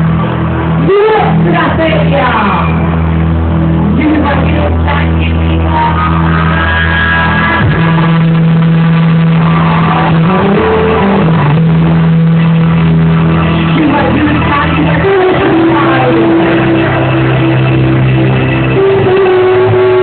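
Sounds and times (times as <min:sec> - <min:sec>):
loud dance music: 0:00.0 - 0:20.0.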